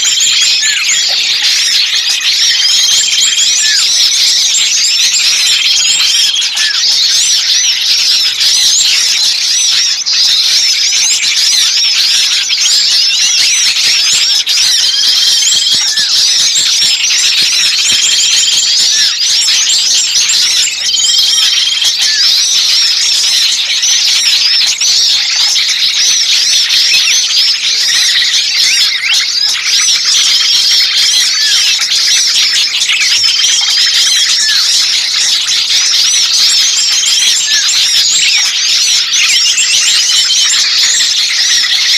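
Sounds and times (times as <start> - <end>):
songbirds chirping and twittering: 0.0 - 41.9.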